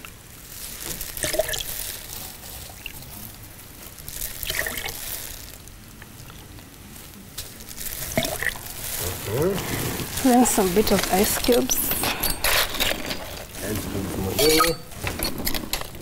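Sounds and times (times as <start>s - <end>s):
juice pouring: 0.0s - 11.7s, 12.4s - 16.0s.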